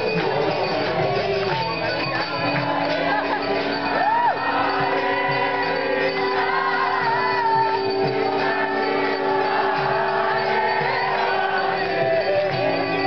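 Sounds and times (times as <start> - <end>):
group singing: 0.0 - 13.0.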